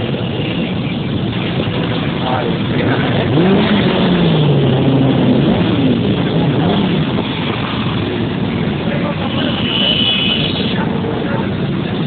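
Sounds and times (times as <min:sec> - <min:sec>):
din of motorcycle engines: 0:00.0 - 0:12.0
motorcycle engine revving: 0:00.0 - 0:12.0.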